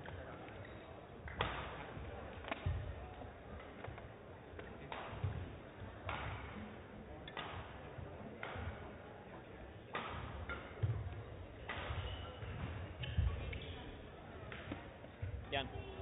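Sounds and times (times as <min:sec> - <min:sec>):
rackets hitting shuttlecock: 0:00.0 - 0:09.0, 0:09.8 - 0:15.4.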